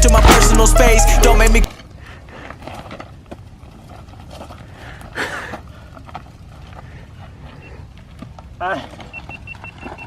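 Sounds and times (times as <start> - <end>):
mountain bike rumbling on trail: 1.7 - 10.0.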